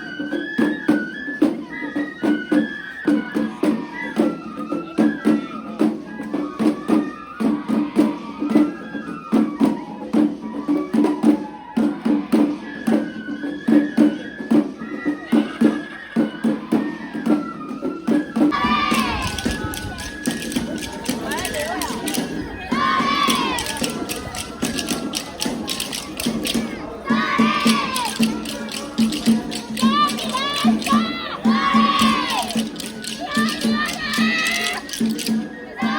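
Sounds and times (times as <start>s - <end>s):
high flute melody: 0.0s - 35.9s.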